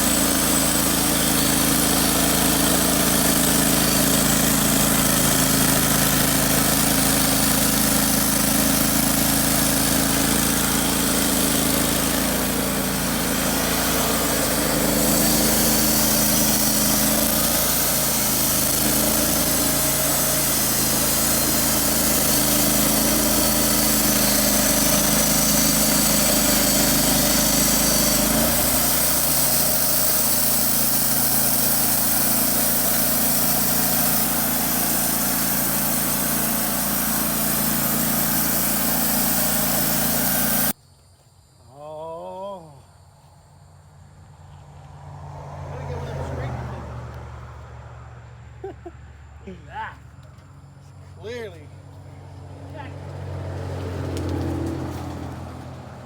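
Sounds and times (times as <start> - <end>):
sawmill engine running: 0.0 - 40.8, 45.6 - 47.6, 49.2 - 56.0.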